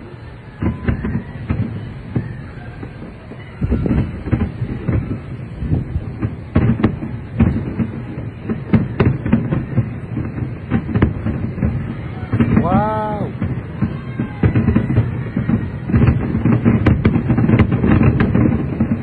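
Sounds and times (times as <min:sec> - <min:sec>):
rumbling crackle: 0:00.0 - 0:19.0
firework shells booming: 0:00.6 - 0:19.0.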